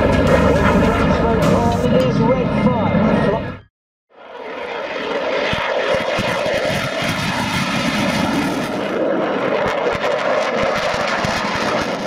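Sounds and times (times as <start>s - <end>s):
jet flying past: 0.0s - 12.0s.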